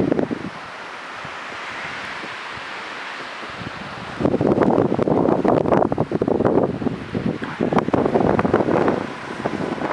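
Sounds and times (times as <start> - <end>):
blizzard wind hissing: 0.0 - 9.9
wind gust buffeting microphone: 0.0 - 9.9.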